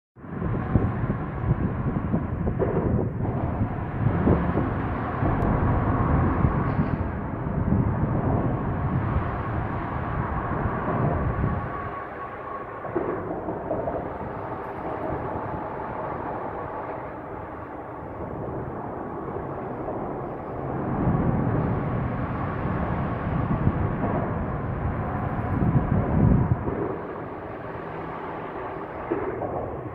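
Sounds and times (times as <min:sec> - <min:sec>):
low rumble of passing vehicles: 0:00.2 - 0:29.9.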